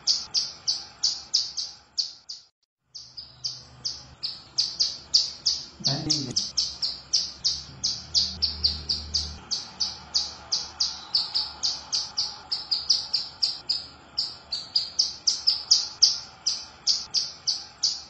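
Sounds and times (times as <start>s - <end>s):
bird high chip notes: 0.0s - 18.0s.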